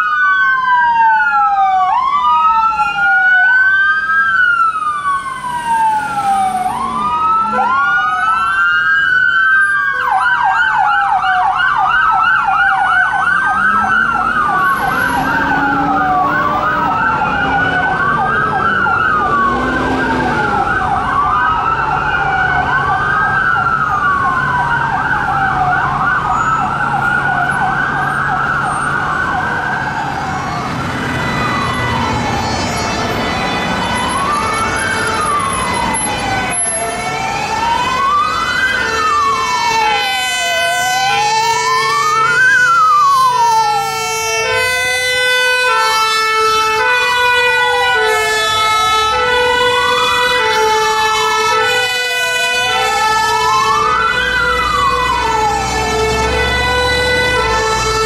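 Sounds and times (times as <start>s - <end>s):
police sirens wailing: 0.0s - 58.0s.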